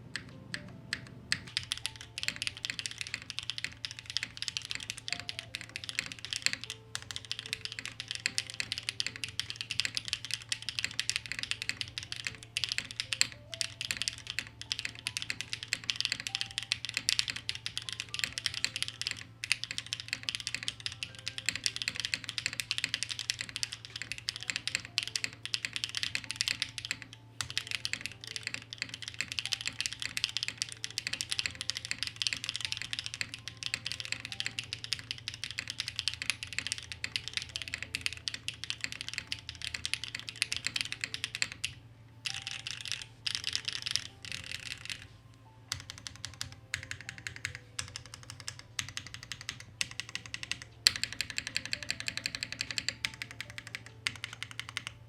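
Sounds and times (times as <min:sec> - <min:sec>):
fast mechanical keyboard typing: 0:00.0 - 0:55.0.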